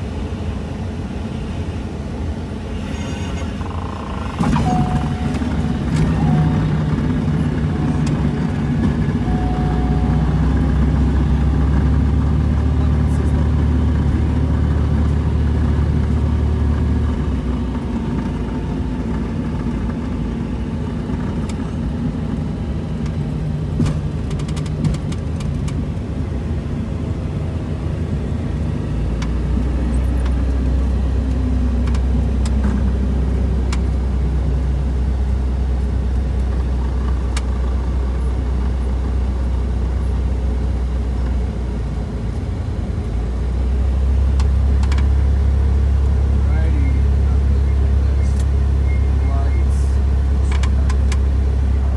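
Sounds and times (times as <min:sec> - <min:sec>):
plane engine drone in cabin: 0:00.0 - 0:51.9.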